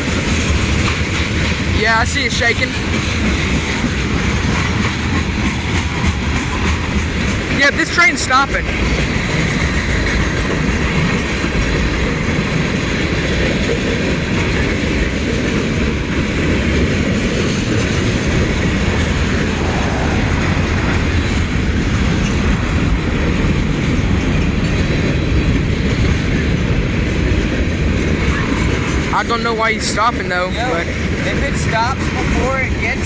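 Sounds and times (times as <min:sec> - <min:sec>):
freight train cars rumbling: 0:00.0 - 0:33.0
wheels clacking over rail joints: 0:00.0 - 0:33.0.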